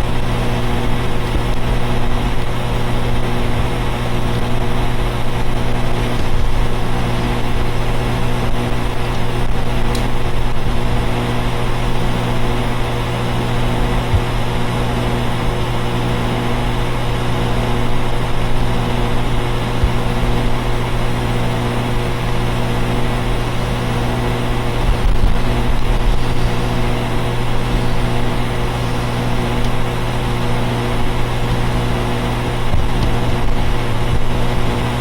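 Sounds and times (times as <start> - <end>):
air conditioner units humming: 0.0 - 35.0.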